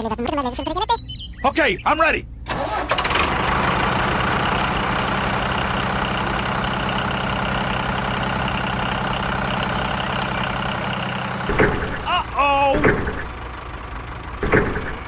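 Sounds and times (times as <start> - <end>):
tractor engine idling: 2.4 - 15.0.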